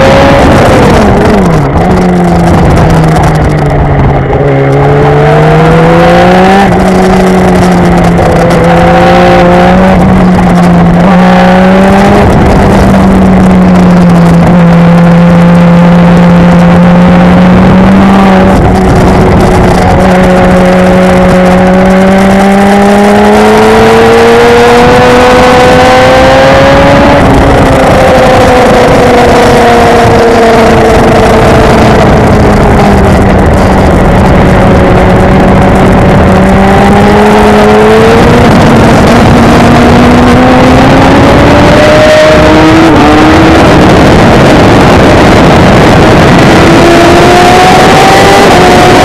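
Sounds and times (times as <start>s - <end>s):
motorcycle engine at speed: 0.0s - 49.0s
wind rush: 0.0s - 49.0s.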